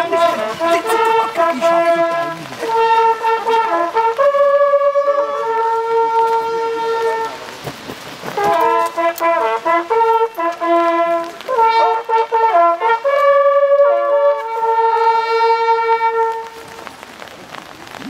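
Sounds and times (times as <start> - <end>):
hunting horns playing fanfare: 0.0 - 7.6, 8.2 - 16.8.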